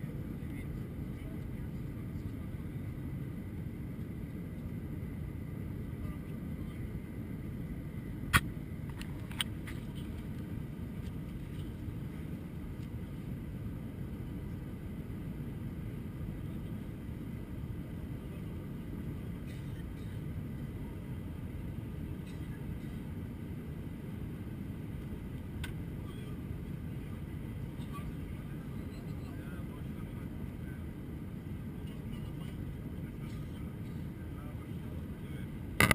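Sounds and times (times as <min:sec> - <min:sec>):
airliner cabin rumble: 0:00.0 - 0:35.9.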